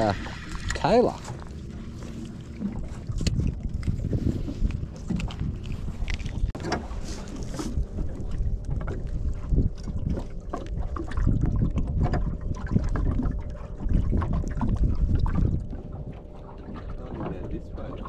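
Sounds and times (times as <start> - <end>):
water slapping hull: 0.0 - 18.0
wind buffeting microphone: 0.0 - 18.0.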